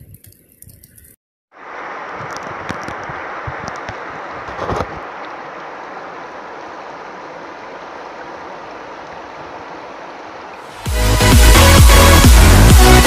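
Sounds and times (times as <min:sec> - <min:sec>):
river water rushing over rocks: 0:01.6 - 0:13.0.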